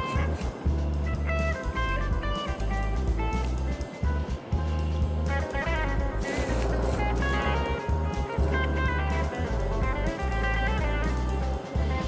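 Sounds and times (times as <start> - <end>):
low bass line: 0.0 - 12.0
plucked guitar music: 0.0 - 12.0.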